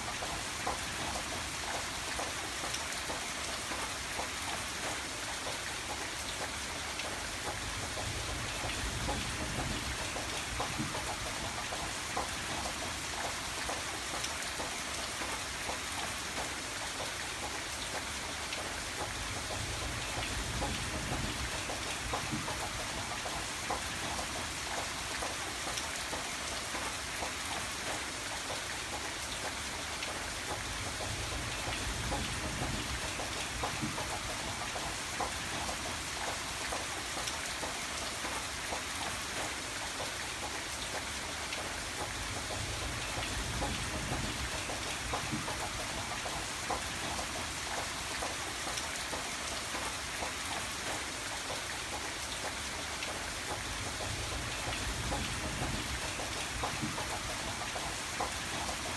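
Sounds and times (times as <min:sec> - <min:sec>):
rain patter on a surface: 0:00.0 - 0:58.9.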